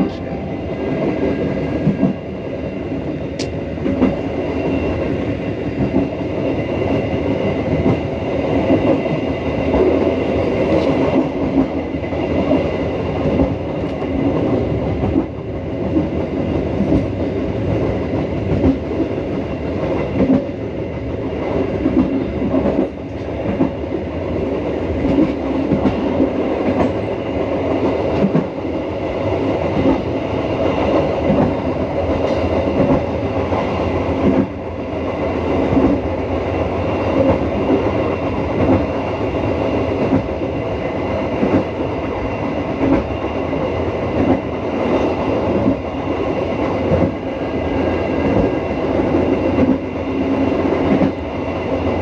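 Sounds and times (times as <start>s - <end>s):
train wheels rumbling on track: 0.0s - 52.0s.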